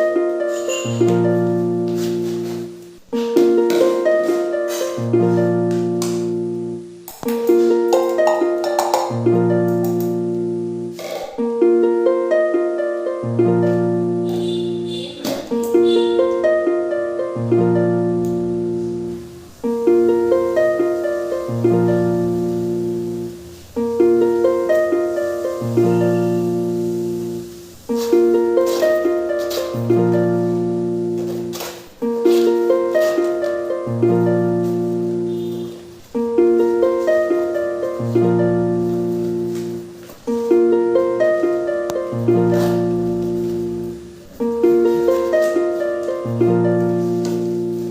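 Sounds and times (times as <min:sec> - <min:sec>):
held bass notes: 0:00.0 - 0:47.9
plucked harp-like melody: 0:00.0 - 0:47.9.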